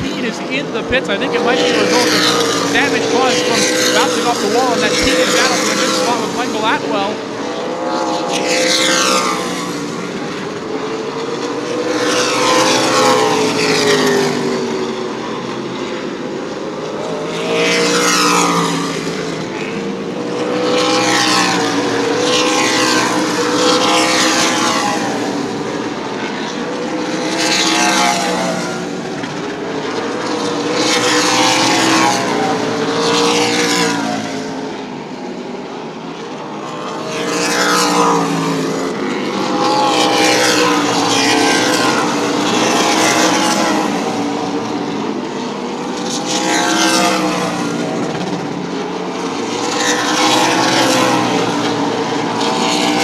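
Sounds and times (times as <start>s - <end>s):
race car engines passing at full throttle: 0.0s - 53.0s.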